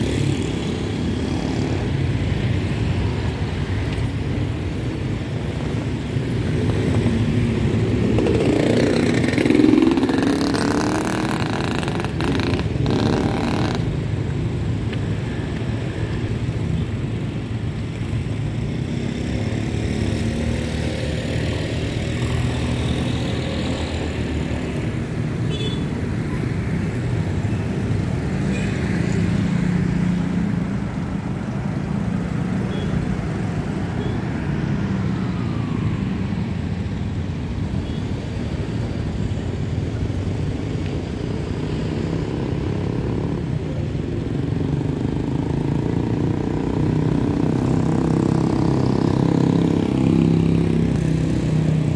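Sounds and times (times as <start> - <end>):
motorcycles and scooters passing: 0.0 - 51.9.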